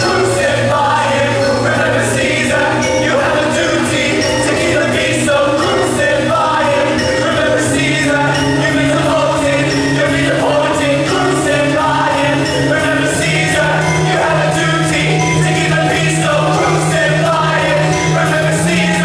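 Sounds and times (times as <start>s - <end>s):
held bass notes: 0.0s - 19.0s
pit band and singers performing: 0.0s - 19.0s.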